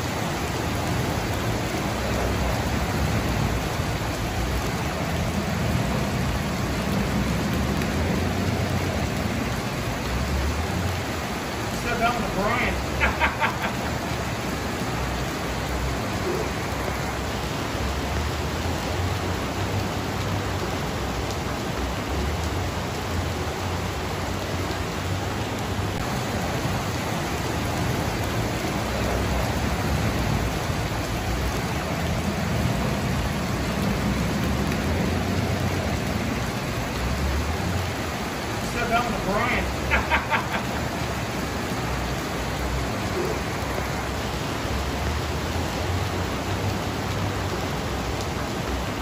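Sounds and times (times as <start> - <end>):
heavy rain: 0.0 - 49.0
rushing floodwater: 0.0 - 49.0.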